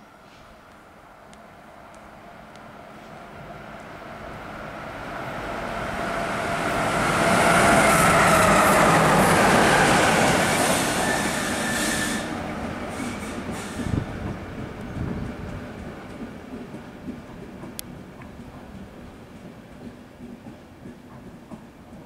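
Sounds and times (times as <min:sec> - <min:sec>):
electric locomotives rolling past: 0:00.1 - 0:22.0.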